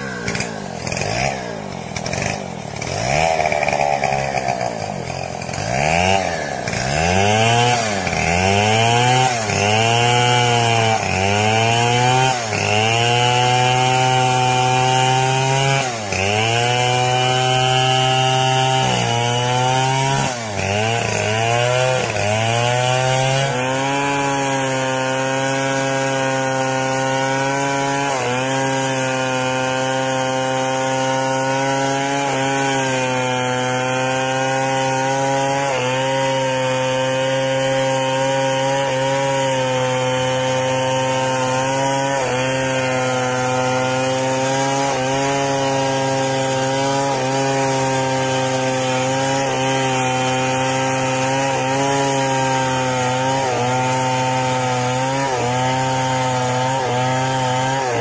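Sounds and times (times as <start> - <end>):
chainsaw cutting into log: 0.0 - 58.0.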